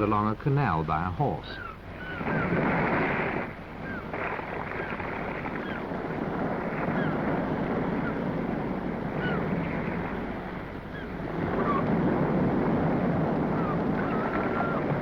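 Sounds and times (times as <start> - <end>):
wind noise on microphone: 1.2 - 15.0.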